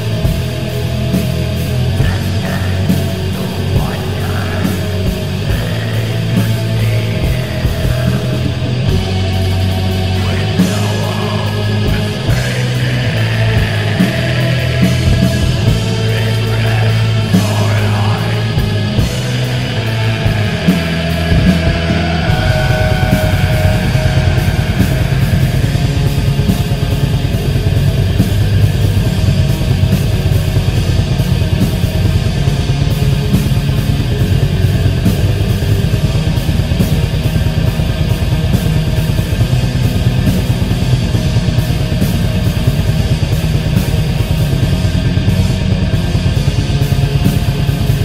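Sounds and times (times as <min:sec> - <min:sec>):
distorted guitars: 0:00.0 - 0:48.0
fast dense drumming: 0:00.0 - 0:48.0.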